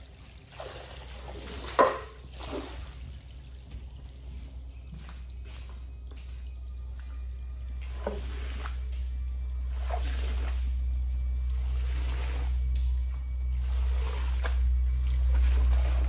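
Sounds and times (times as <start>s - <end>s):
squeegee squishing wet rug: 0.0s - 16.0s
steady low hum: 0.0s - 16.0s.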